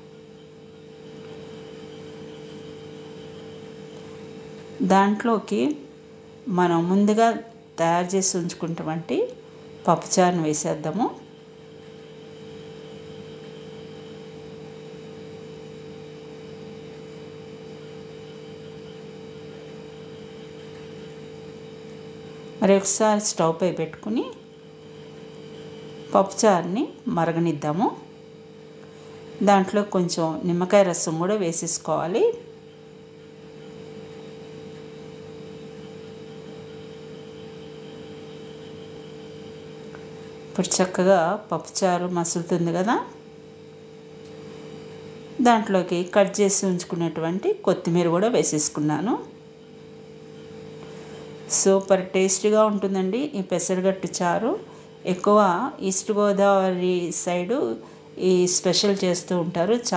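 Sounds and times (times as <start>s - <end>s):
appliance or fan humming: 0.0s - 59.9s.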